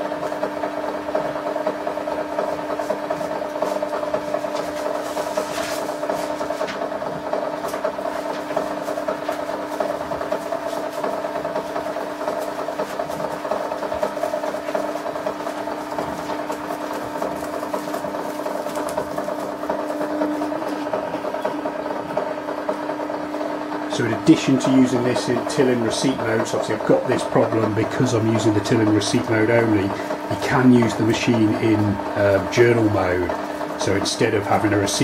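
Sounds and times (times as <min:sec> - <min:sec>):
receipt printer whirring: 0:00.0 - 0:35.0.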